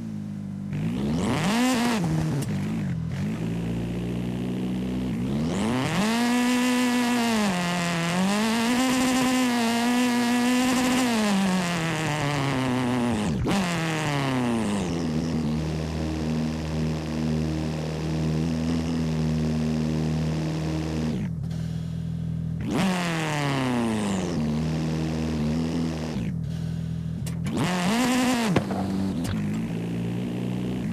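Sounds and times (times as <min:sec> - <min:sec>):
video game car engine revving: 0:00.0 - 0:30.9.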